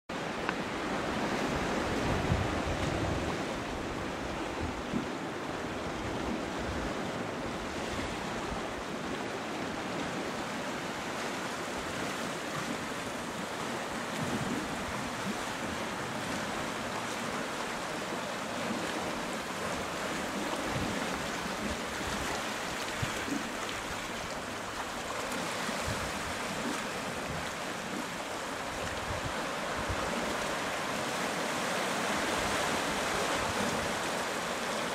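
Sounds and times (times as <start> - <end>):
wind rumbling on microphone: 0.2 - 31.2.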